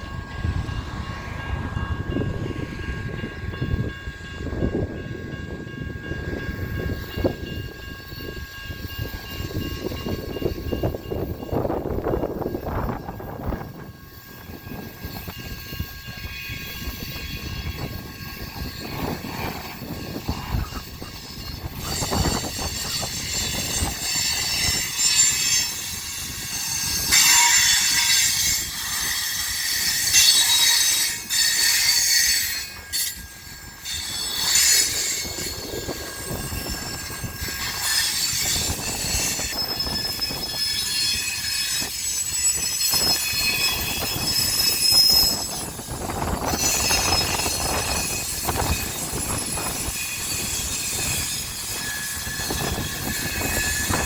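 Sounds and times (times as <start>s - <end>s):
train cars rolling with low rumble: 0.0s - 54.0s
wheels squealing on rails: 0.0s - 54.0s.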